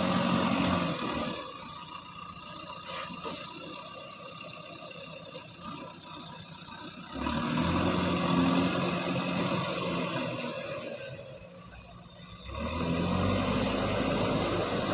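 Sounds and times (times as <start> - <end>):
diesel engine revving: 0.0 - 14.9.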